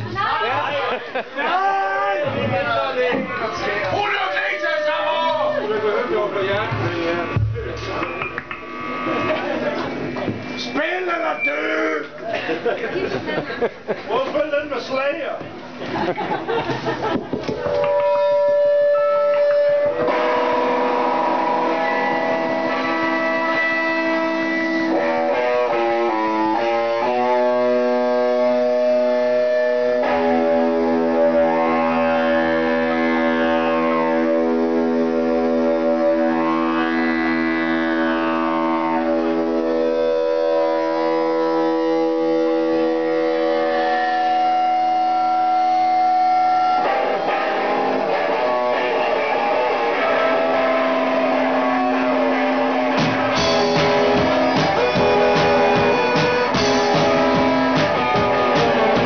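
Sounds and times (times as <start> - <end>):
band playing held chords: 0.0 - 11.5, 17.6 - 59.0.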